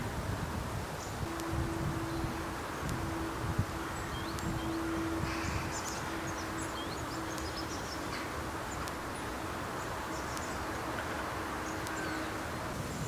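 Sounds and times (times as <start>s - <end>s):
steady rushing background: 0.0s - 13.0s
small birds chirping: 1.0s - 12.6s
low hum: 1.2s - 12.8s.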